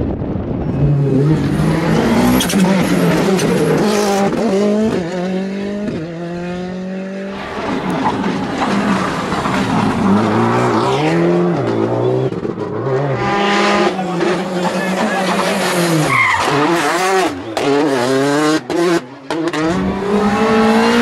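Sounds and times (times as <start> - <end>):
car engine braking and accelerating: 0.0 - 21.0
rally car engine revving: 0.1 - 21.0.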